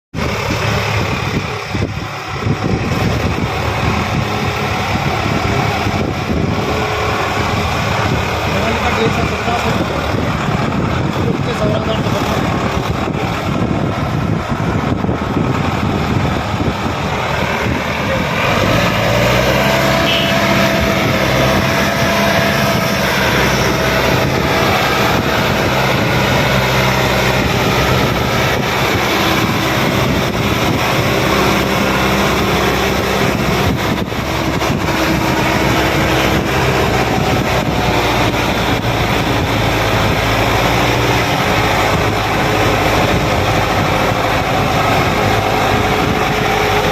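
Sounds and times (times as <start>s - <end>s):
tractor engine under load: 0.1s - 46.9s.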